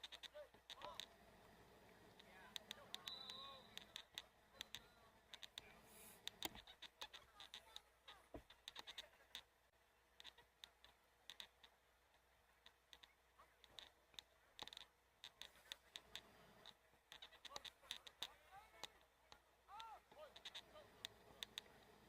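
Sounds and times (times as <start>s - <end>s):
faint clicking and tapping: 0.0s - 22.0s.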